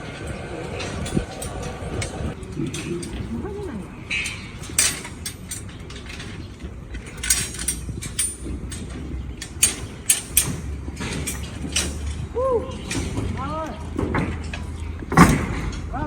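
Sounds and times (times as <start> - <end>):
metallic clanks and clicks: 0.0 - 16.0.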